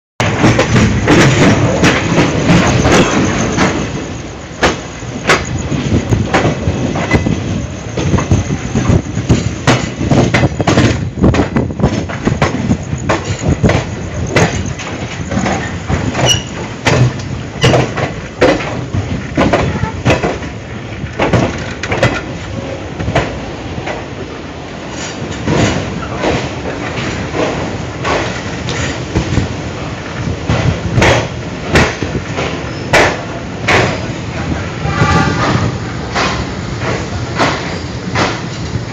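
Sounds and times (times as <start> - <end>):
train rumble: 0.2 - 38.9
train wheels clattering over rails: 0.2 - 38.9.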